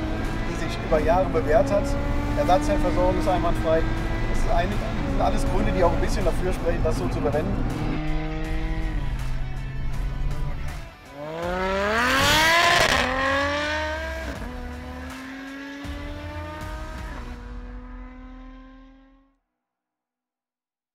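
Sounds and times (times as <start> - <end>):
car engine accelerating hard: 0.0 - 19.3.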